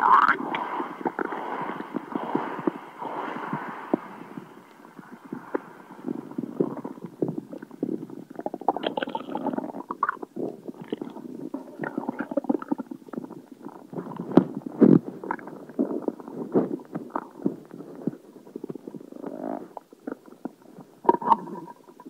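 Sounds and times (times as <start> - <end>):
stomach gurgling: 0.0 - 22.0.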